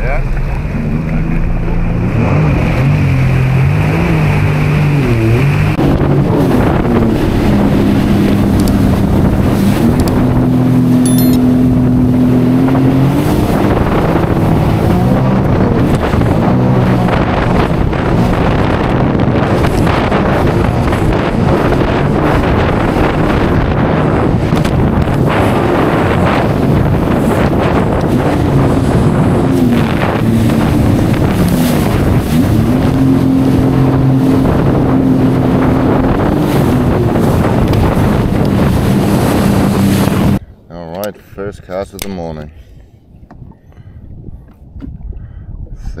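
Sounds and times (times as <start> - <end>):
jet ski engine revving: 0.0 - 40.4
wind buffeting microphone: 0.0 - 46.0.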